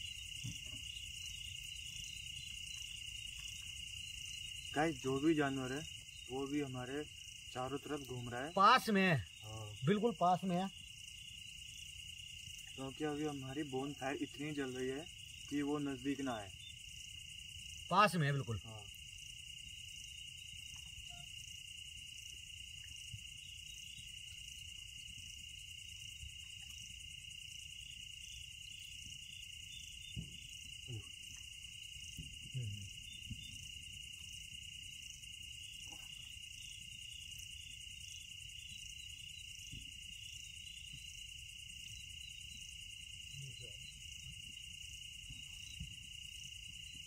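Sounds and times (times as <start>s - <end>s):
crickets trilling: 0.0s - 47.0s.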